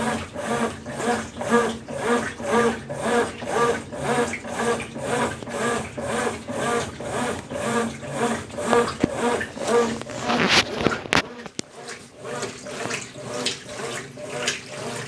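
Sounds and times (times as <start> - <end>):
washing machine agitating: 0.0 - 15.0.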